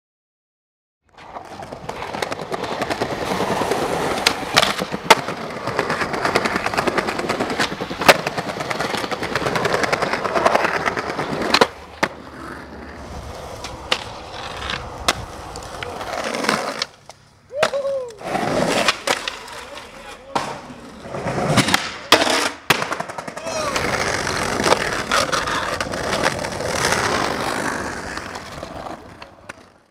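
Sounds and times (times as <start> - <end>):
skateboard wheels rolling on pavement: 1.0 - 29.9
skateboard clacks: 1.1 - 29.9.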